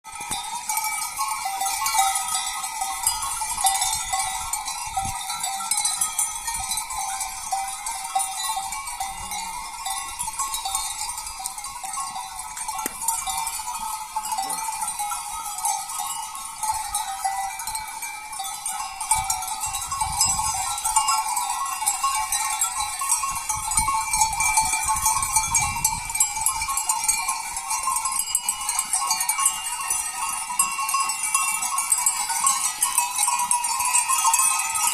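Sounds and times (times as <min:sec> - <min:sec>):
goat bells clanking: 0:00.0 - 0:34.9.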